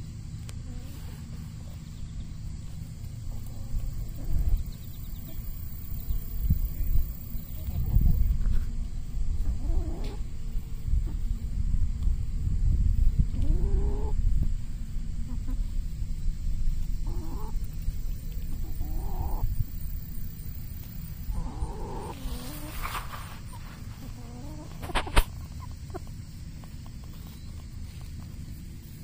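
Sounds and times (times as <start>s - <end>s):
low rumble on microphone: 0.0s - 29.0s
chickens calling: 0.7s - 12.1s, 13.0s - 29.0s.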